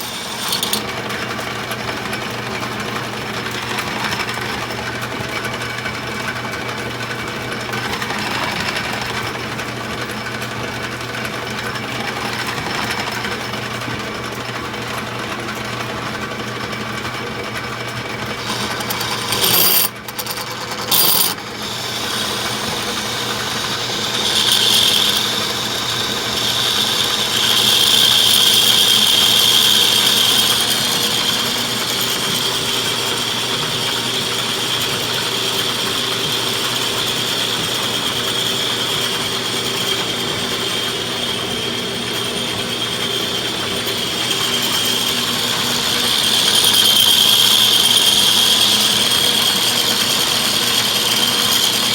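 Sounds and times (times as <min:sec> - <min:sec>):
metal lathe hum: 0:00.0 - 0:13.8, 0:18.1 - 0:51.9.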